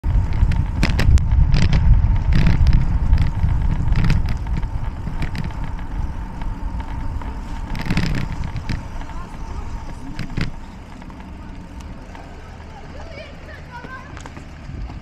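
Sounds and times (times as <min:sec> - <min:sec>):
wind rumble on microphone: 0:00.0 - 0:12.1, 0:14.1 - 0:15.0
bike tyres on cracked asphalt: 0:00.0 - 0:15.0
clicks and rattles: 0:00.2 - 0:12.7.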